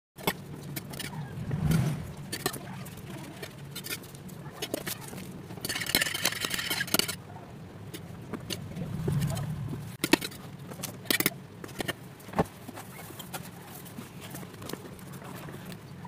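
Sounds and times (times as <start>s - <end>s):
steady low hum: 0.2s - 16.0s.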